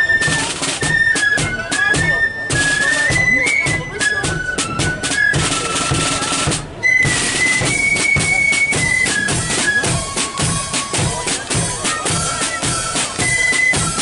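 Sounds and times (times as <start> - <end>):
flutes playing melody: 0.0 - 14.0
snare drums: 0.0 - 14.0.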